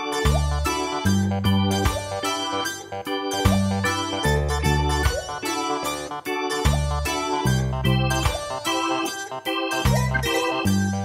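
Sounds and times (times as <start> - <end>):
upbeat keyboard tune with bass: 0.0 - 11.0.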